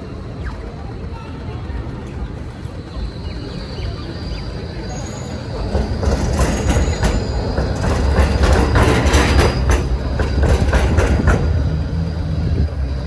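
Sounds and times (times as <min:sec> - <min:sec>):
tram wheels clacking on rails: 0:00.0 - 0:13.0.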